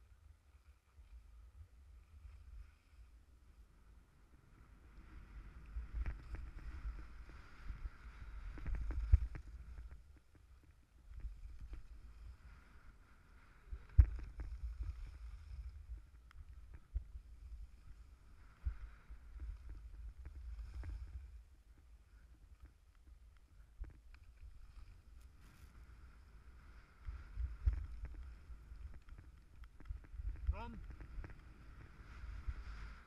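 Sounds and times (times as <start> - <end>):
wind rumble on microphone: 0.0 - 33.0
skis scraping over snow: 4.6 - 22.2, 23.5 - 33.0.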